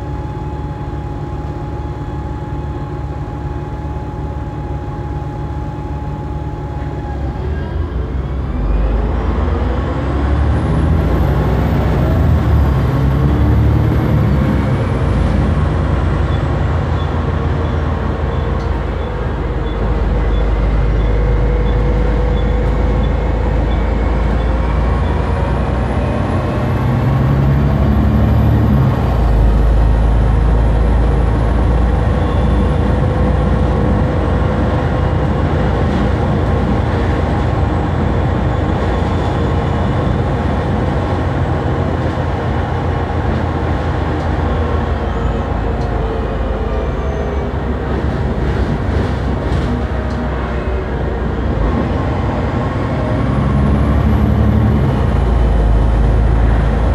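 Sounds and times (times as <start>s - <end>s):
bus engine rumbling: 0.0s - 56.9s.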